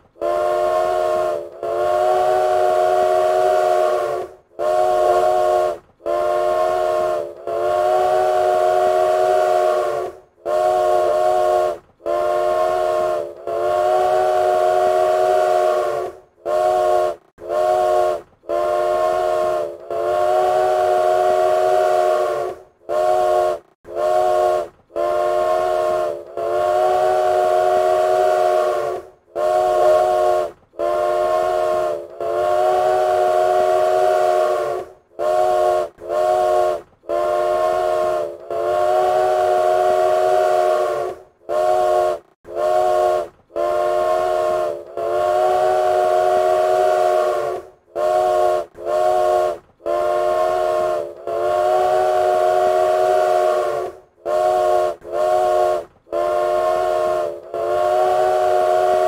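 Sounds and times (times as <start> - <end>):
steam locomotive whistle blasts: 0.0 - 59.0.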